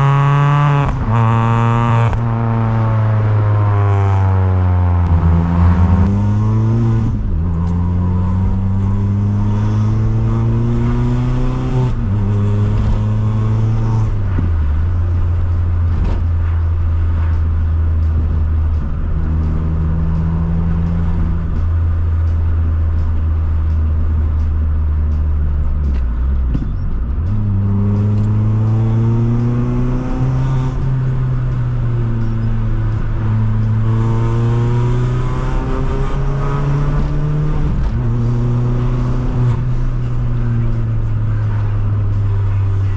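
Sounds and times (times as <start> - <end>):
car engine accelerating through gears: 0.0 - 42.9.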